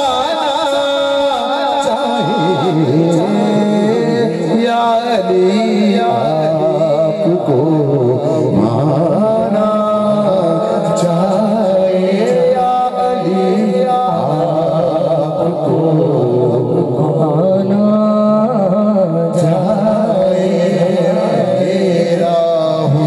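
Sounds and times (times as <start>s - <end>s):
person singing devotional song: 0.0s - 23.0s.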